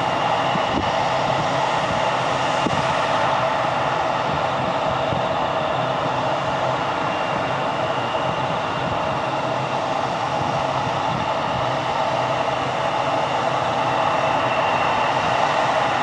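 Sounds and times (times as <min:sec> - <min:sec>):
jet engines whining at low power: 0:00.0 - 0:16.0.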